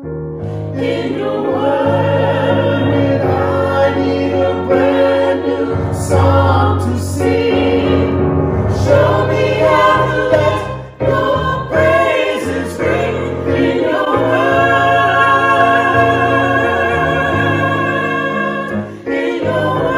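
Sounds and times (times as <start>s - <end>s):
choir singing a hymn: 0.4s - 19.9s.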